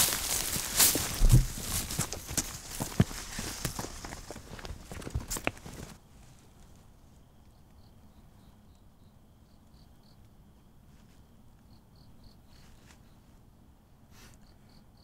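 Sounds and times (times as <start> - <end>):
faint cricket chirping: 0.0 - 15.0
low background hiss: 0.0 - 15.0.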